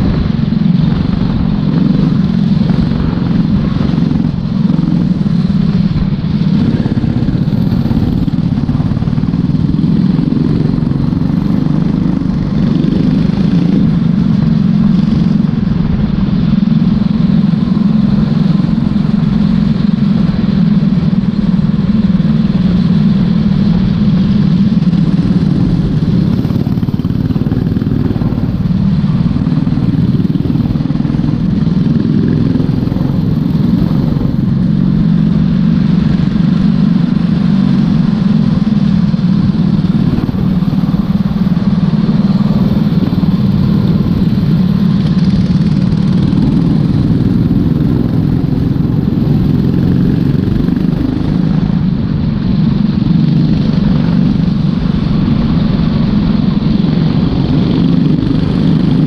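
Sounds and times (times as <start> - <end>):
kart engine at race speed: 0.0 - 59.0
other kart engines: 0.0 - 59.0.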